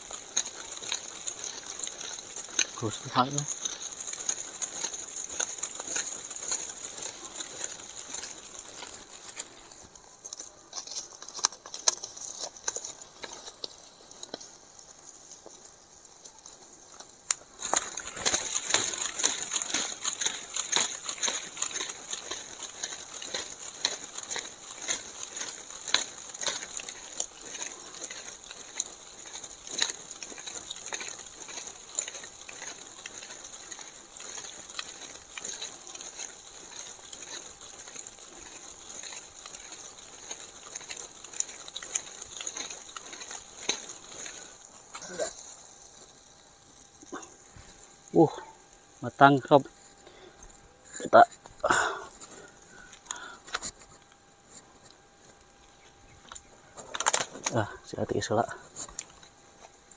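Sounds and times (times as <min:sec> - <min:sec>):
chicken sizzling on grill: 0:00.0 - 0:59.9
wood fire crackling: 0:00.0 - 0:59.9.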